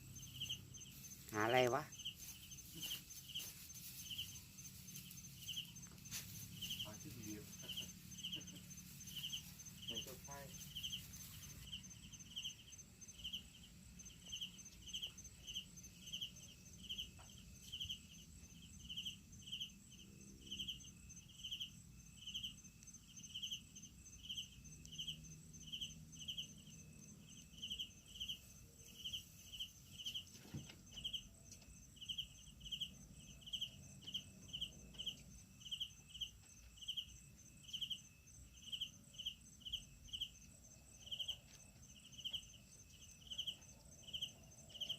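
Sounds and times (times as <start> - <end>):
crickets chirping: 0.0 - 44.9
high insect trill: 0.0 - 44.9.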